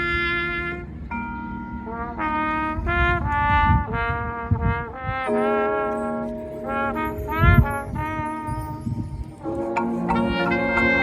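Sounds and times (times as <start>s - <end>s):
marching band brass chords: 0.0s - 1.0s, 1.8s - 11.0s.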